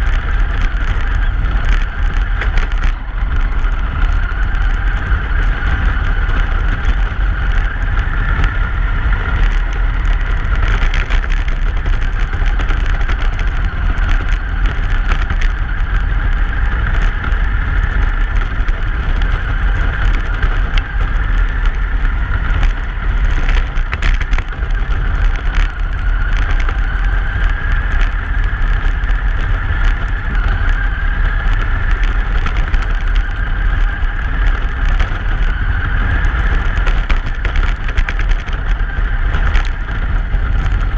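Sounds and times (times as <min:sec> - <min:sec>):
truck driving rumble: 0:00.0 - 0:40.9.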